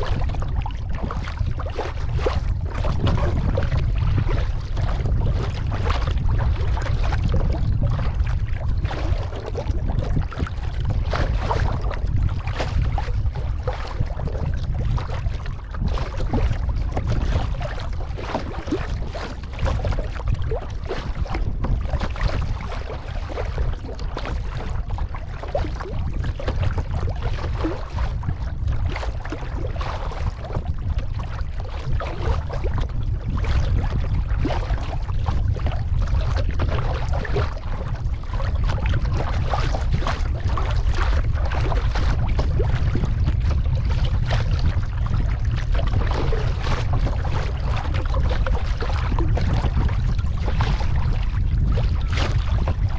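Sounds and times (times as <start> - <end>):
paddles splashing water: 0.0 - 52.9
water washing against hull: 0.0 - 52.9
wind rumble on microphone: 0.0 - 52.9.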